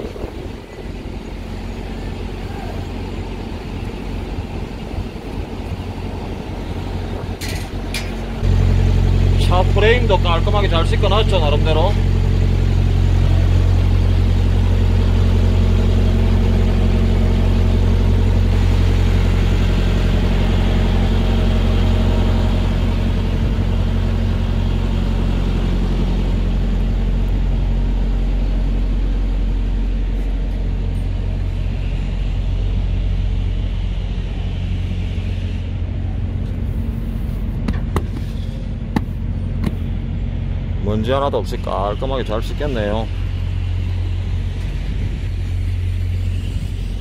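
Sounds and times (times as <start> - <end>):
diesel truck engine idling: 0.0 - 47.0.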